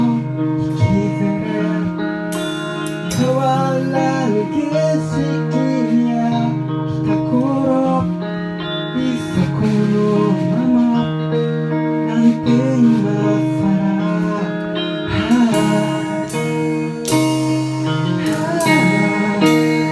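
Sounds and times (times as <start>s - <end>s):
guitar chords: 0.0s - 19.9s
gliding melody line: 0.2s - 19.9s.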